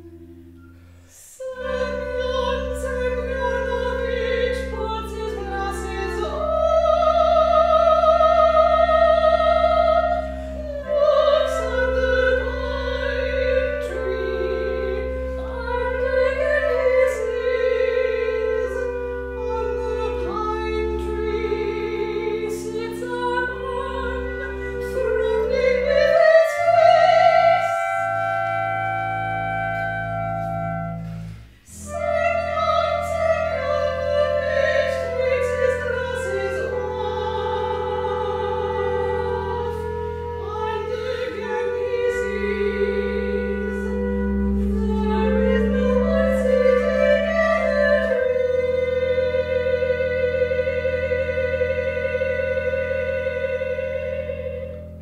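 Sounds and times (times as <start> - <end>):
clarinet: 0.0 - 55.0
double bass drone: 0.0 - 55.0
piccolo: 0.0 - 55.0
soprano singing sustained notes: 0.0 - 55.0.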